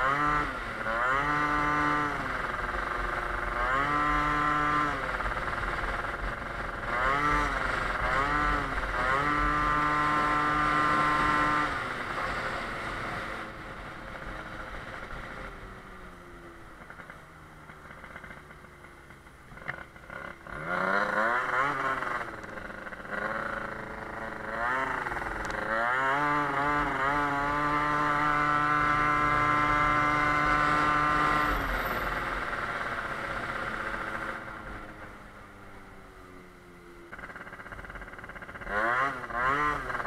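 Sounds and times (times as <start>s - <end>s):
scooter engine revving: 0.0s - 40.0s.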